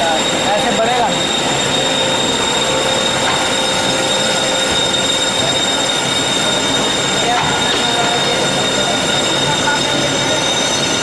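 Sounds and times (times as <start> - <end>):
band saw squealing whine: 0.0 - 11.0.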